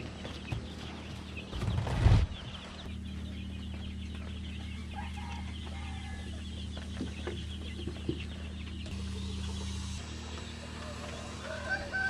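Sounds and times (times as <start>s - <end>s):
chickens clucking: 0.0s - 12.0s
steady low hum: 0.0s - 12.0s.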